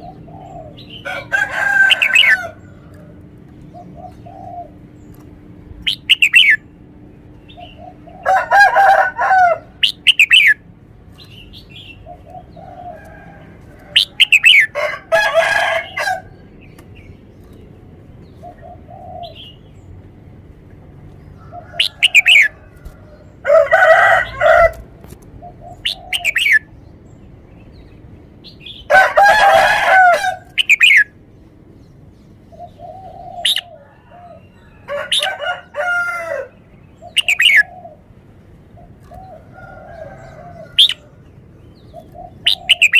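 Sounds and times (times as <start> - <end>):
lower bird calls: 0.0 - 14.8, 15.7 - 20.1, 21.2 - 23.6, 24.2 - 31.2, 31.8 - 35.4, 36.5 - 42.9.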